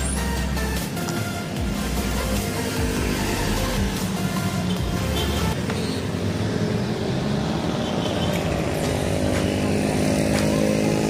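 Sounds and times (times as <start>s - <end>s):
motorcycle engine running: 1.6s - 11.0s.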